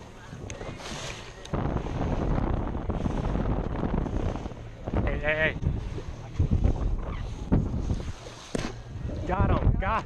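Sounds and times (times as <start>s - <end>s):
water washing against boat hull: 0.0s - 10.0s
wind buffeting microphone: 0.0s - 10.0s.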